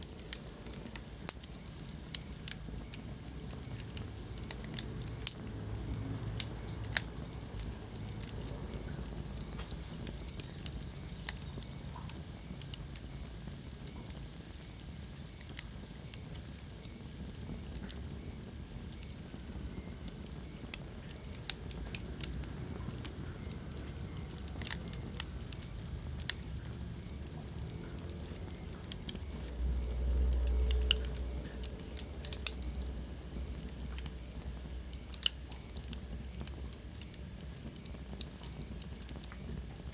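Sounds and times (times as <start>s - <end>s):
low rumble of burning fire: 0.0s - 39.9s
wood fire crackling and popping: 0.0s - 39.9s.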